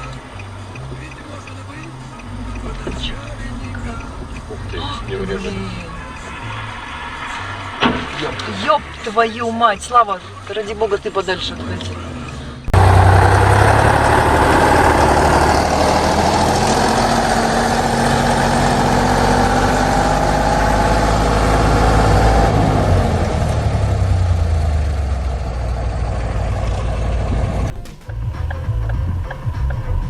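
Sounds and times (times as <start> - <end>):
heavy vehicle engine running: 0.0 - 30.0.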